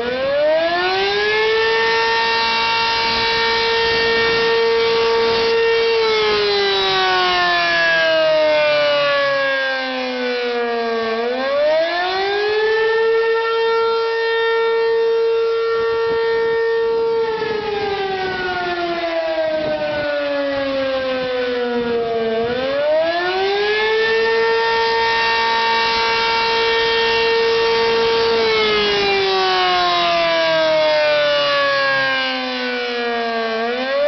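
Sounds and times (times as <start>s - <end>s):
tornado siren wailing: 0.0s - 34.0s.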